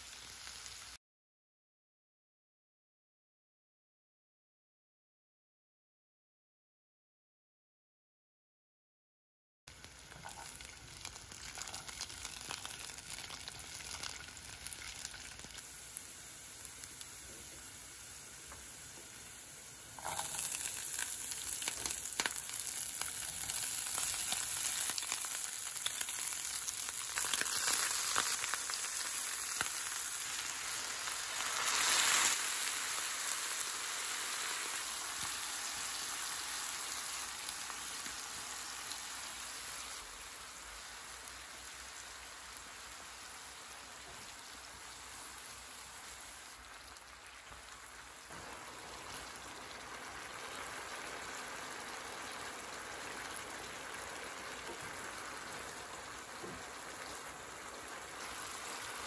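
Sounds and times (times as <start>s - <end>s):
food sizzling in a hot pan: 0.0s - 1.0s, 9.7s - 59.0s.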